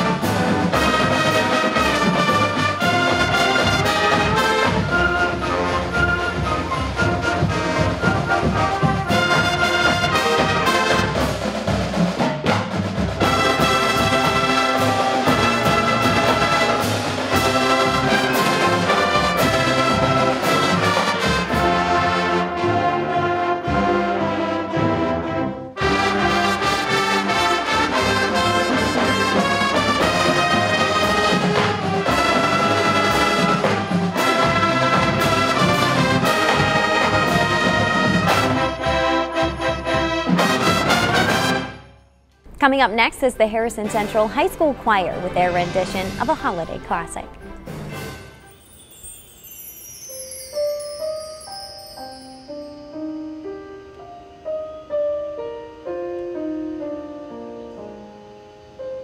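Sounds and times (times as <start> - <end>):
instrumental ensemble with brass: 0.0 - 53.2.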